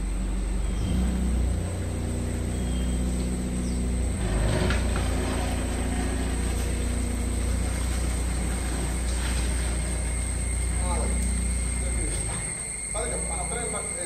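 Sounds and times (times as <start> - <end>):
car engine pulling away: 0.0 - 14.0.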